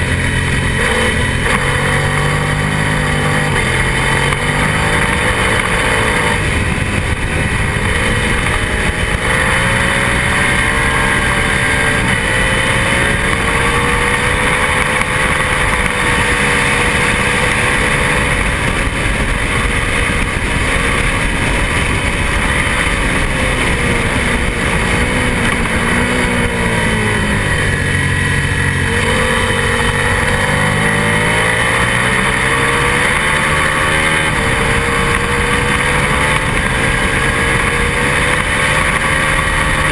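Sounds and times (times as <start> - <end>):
heavy wind rush: 0.0 - 39.9
race motorcycle engine: 0.0 - 39.9.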